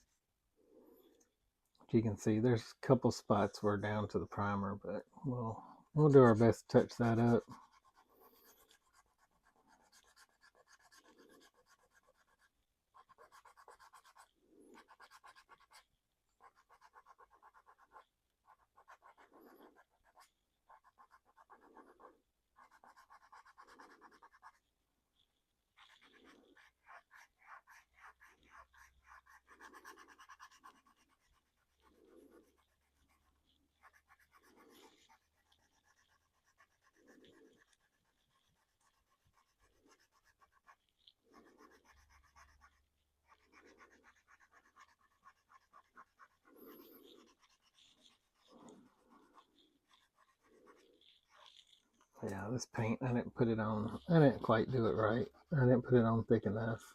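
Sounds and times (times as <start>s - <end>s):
scratchy rubbing on plastic: 2.2s - 56.9s.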